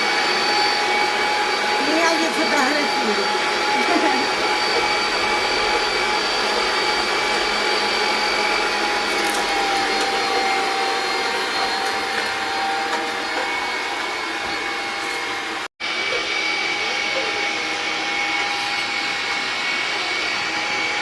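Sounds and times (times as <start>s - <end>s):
steady whine: 0.0s - 20.8s
appliance motor and fan running: 0.0s - 21.0s.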